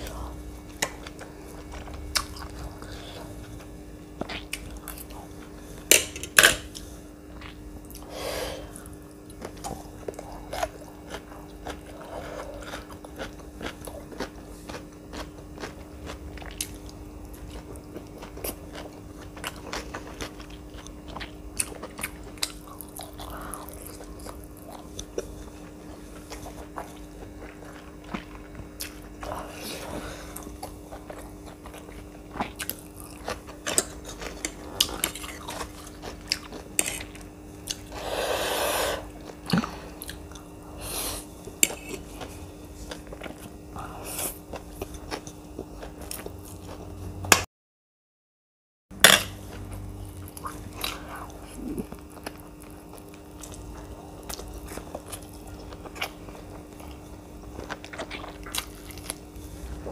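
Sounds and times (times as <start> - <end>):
faint steady hum: 0.0 - 47.4, 49.0 - 59.9
person chewing food: 0.0 - 47.4, 49.0 - 59.9.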